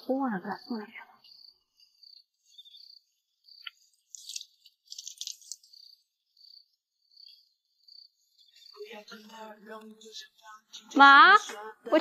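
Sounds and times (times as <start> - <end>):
fast insect trills: 0.0 - 10.6
insects chirping: 0.0 - 12.0.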